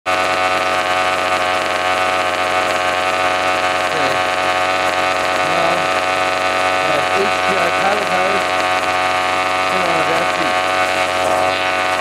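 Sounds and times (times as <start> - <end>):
small two-stroke engine idling: 0.1 - 12.0.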